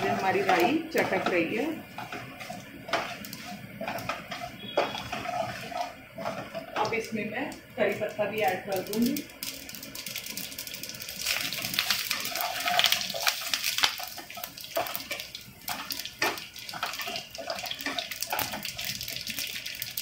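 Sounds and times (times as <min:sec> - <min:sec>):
spices sizzling and popping in oil: 0:00.0 - 0:20.0
wooden spatula stirring: 0:00.0 - 0:20.0.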